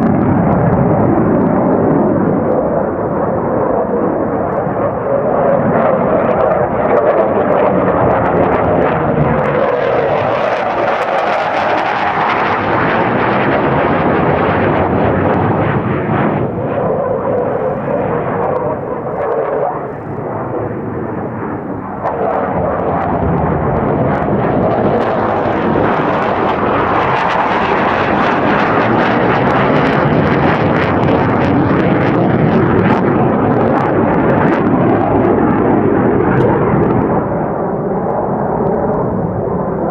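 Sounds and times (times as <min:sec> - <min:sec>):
jet roar: 0:00.0 - 0:39.9.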